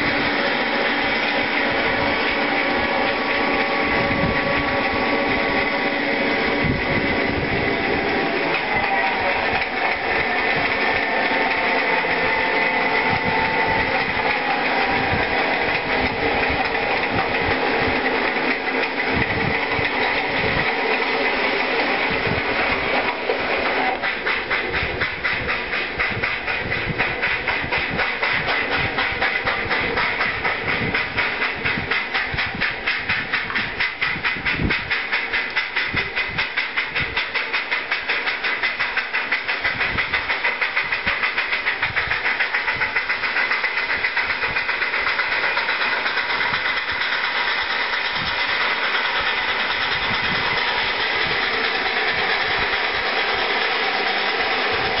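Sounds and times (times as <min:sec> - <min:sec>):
steam locomotive chuffing: 0:00.0 - 0:55.0
train rumbling past: 0:00.0 - 0:55.0.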